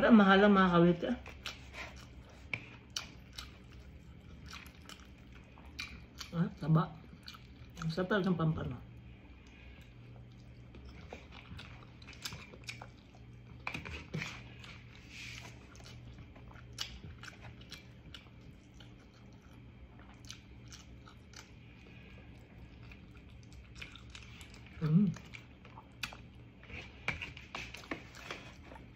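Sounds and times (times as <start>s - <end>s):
chewing with wet mouth clicks: 1.2s - 8.0s, 9.4s - 28.9s.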